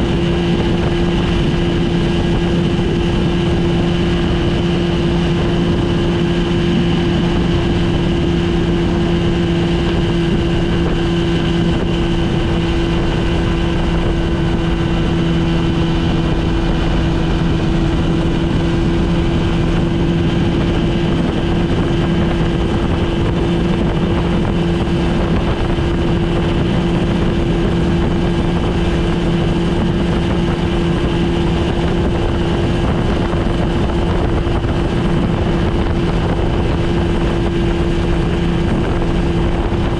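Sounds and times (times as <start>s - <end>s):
outboard motor at high speed: 0.0s - 39.9s
wind and spray rushing: 0.0s - 39.9s.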